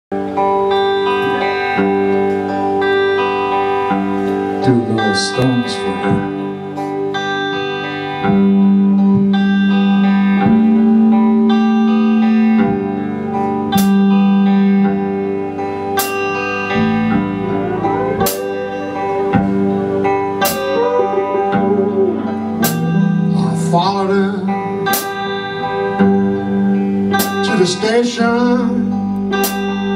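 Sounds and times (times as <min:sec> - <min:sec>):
electric guitar blues playing: 0:00.1 - 0:29.9
live blues band: 0:00.2 - 0:29.9.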